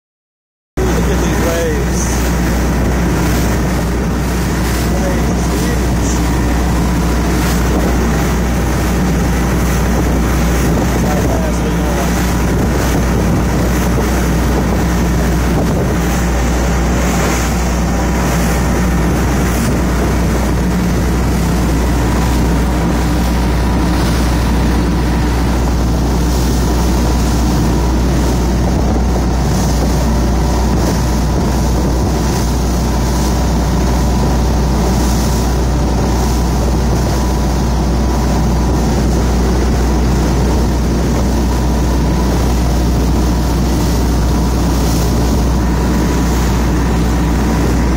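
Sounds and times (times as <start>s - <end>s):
motorboat engine drone: 0.8s - 47.9s
water spraying off hull: 0.8s - 47.9s
wind buffeting microphone: 0.8s - 47.9s.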